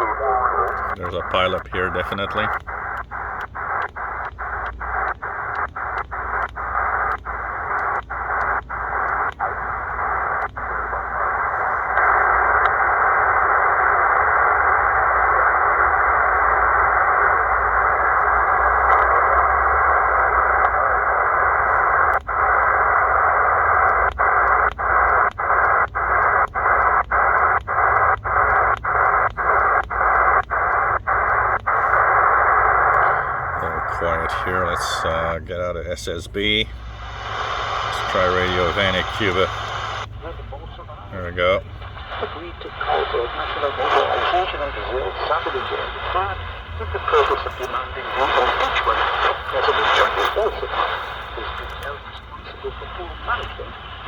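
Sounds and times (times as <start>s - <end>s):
shortwave receiver hiss: 0.0s - 54.0s.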